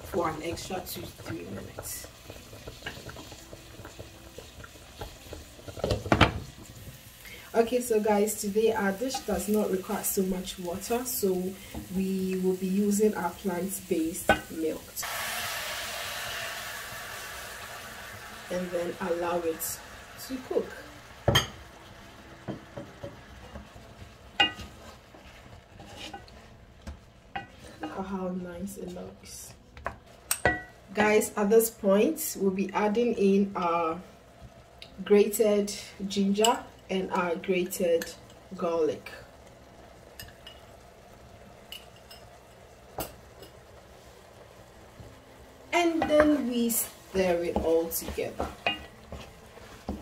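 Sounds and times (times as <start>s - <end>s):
wooden spoon stirring in pan: 0.0s - 17.5s, 18.5s - 30.9s, 39.5s - 50.0s
faint simmering: 0.0s - 50.0s
faint sizzle: 0.0s - 50.0s.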